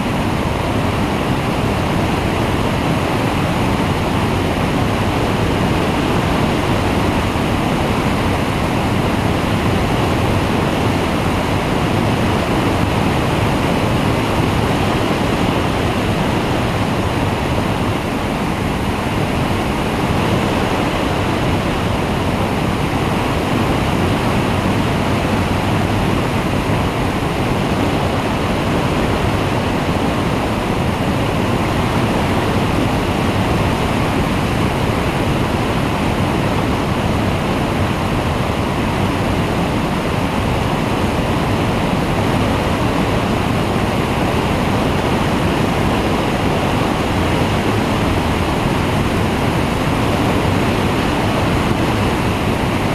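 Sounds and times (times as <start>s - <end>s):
engine and propeller: 0.0s - 52.9s
wind rushing over microphone: 0.0s - 52.9s.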